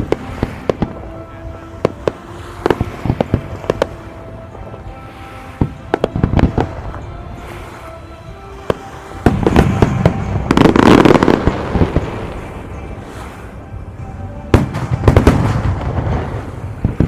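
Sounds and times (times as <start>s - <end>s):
fireworks bangs and crackling: 0.0s - 7.2s, 8.6s - 12.8s, 14.5s - 17.0s
music: 0.0s - 17.0s.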